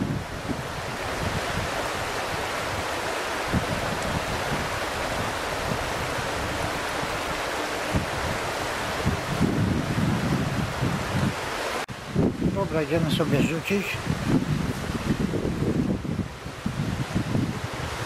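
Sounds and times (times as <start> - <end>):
river water rushing over stones: 0.0 - 18.0
wind bumps on microphone: 0.0 - 18.0.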